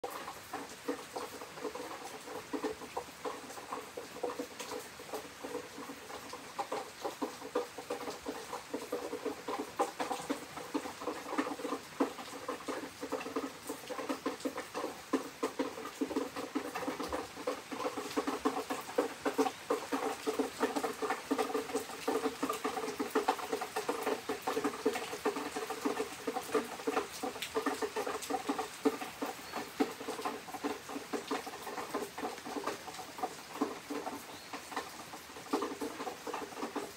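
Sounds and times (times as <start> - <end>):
rain on a hard surface: 0.0 - 36.9.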